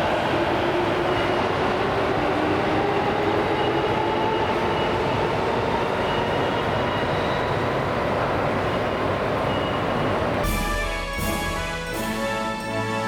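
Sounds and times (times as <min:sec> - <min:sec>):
train running noise: 0:00.0 - 0:12.9.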